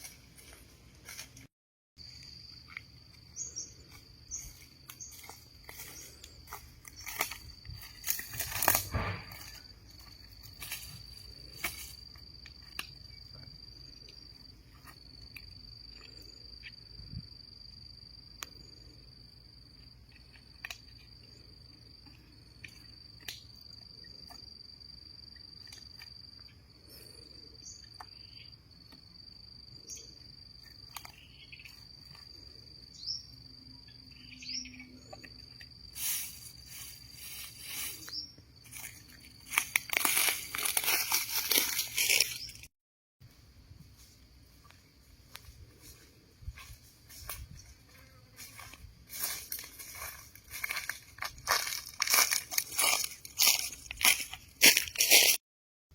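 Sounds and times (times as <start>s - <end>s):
high-pitched insect trill: 2.0s - 42.7s, 43.4s - 55.4s.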